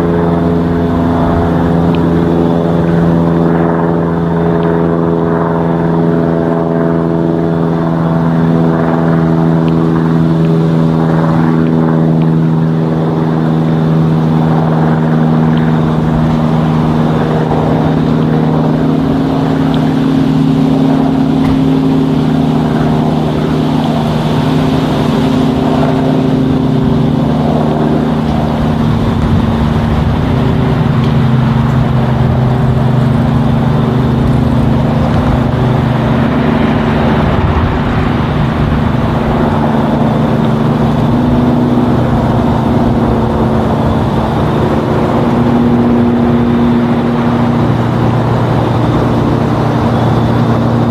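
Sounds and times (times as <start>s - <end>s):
propeller airplane droning overhead: 0.0s - 50.9s.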